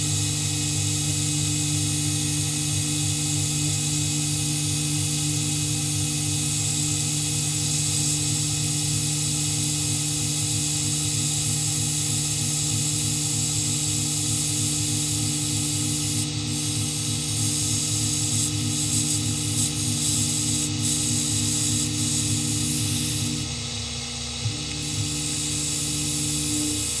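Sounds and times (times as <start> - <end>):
high hiss of cutting: 0.0 - 23.6, 24.6 - 27.0
milling machine motor hum: 0.1 - 27.0.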